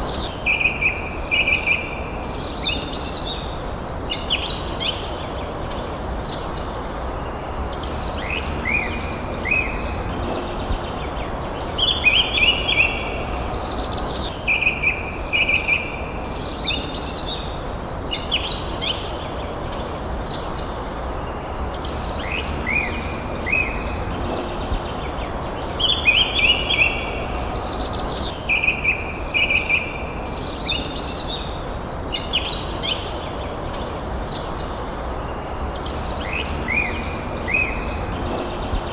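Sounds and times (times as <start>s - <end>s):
birds singing: 0.0s - 38.9s
steady low hiss: 0.0s - 38.9s.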